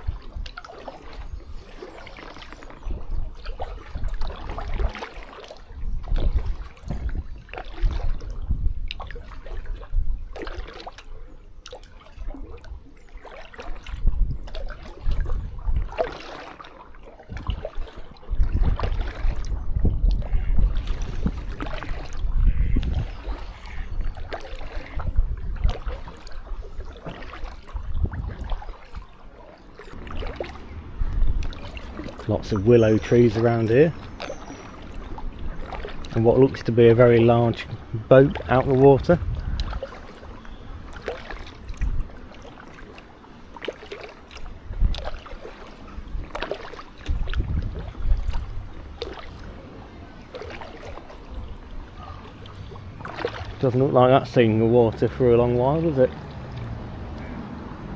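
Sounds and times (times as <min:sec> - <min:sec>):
wind buffeting microphone: 0:00.0 - 0:16.3, 0:17.0 - 0:43.7, 0:44.3 - 0:57.9
paddle splashing in water: 0:00.0 - 0:57.9.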